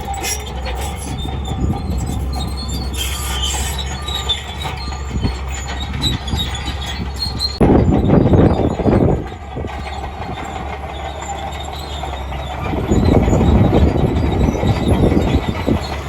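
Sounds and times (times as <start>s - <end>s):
bulldozer engine rumbling: 0.0s - 16.0s
steel tracks squealing and clanking: 0.0s - 16.0s.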